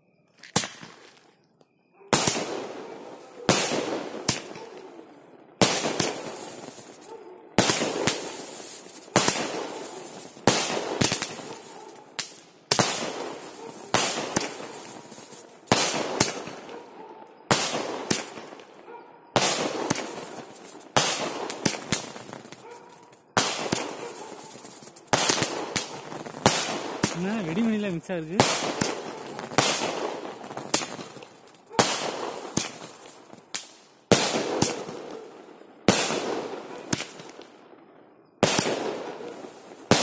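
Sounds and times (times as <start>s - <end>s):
fireworks bangs with crackling: 2.1s - 40.0s.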